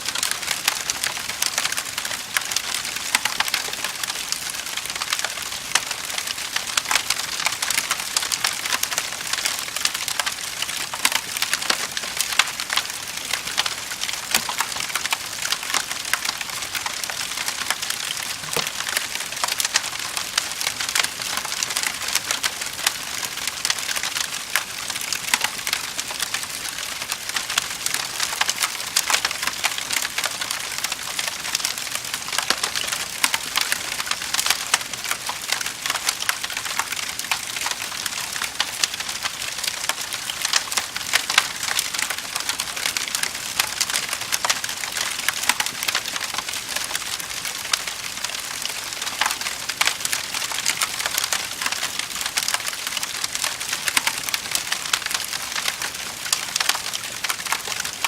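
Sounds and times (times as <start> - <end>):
wood fire crackling and popping: 0.1 - 58.0.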